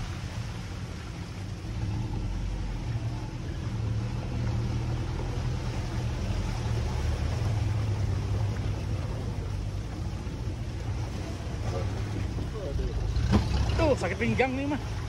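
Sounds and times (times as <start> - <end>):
car engine driving: 0.0 - 15.0.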